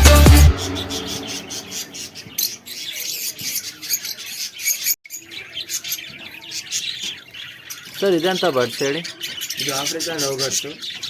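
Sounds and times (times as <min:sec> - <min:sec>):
birds chirping and squawking: 0:00.0 - 0:11.0.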